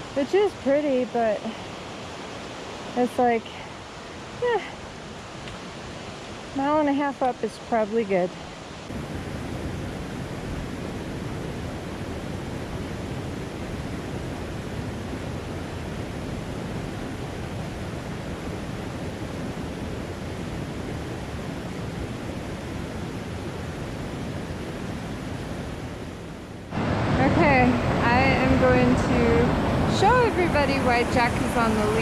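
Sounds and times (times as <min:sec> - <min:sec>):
creek rushing: 0:00.0 - 0:32.0.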